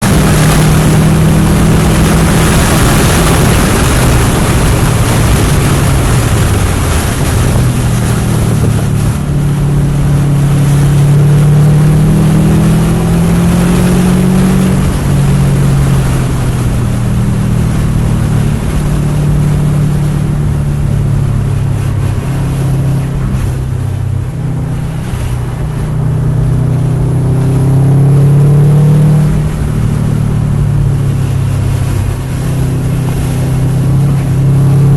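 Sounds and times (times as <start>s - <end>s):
car engine accelerating and shifting: 0.0s - 34.9s
wind and road noise: 0.0s - 34.9s.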